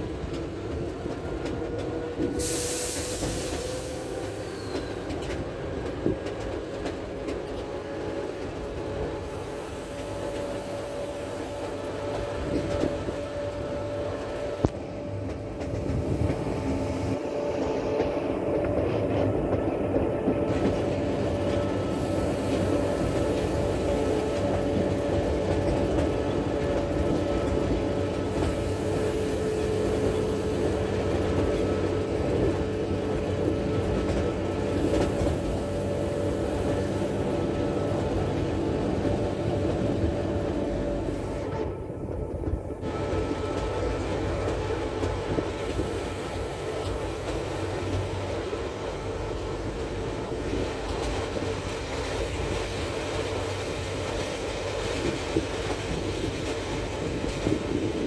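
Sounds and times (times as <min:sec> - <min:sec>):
train rolling rumble: 0:00.0 - 0:58.0.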